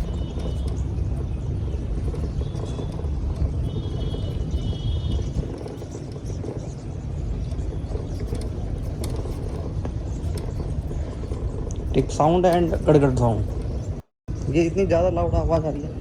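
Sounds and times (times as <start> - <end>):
electric scooter rumble: 0.0 - 16.0
suspension ticks and rattles: 0.0 - 16.0.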